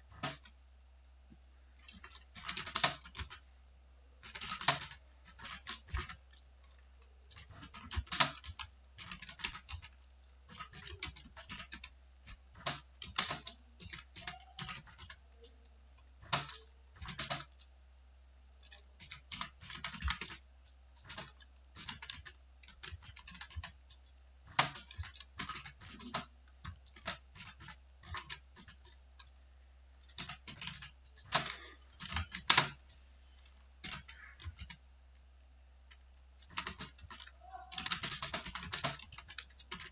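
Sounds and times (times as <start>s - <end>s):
typing on keyboard: 0.1s - 0.6s, 1.8s - 3.4s, 4.2s - 17.7s, 18.6s - 34.8s, 35.9s - 39.9s.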